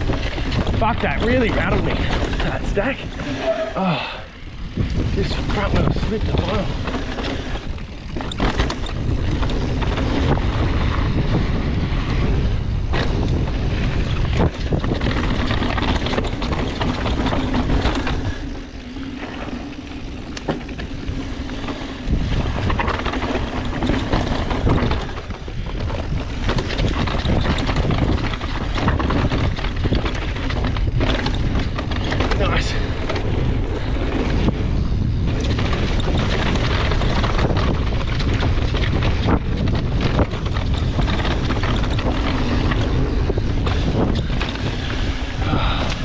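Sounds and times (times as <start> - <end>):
wheels knocking on rocks: 0.0 - 3.2, 3.9 - 46.0
bike tyre rumble: 0.0 - 46.0
wind on microphone: 0.0 - 46.0.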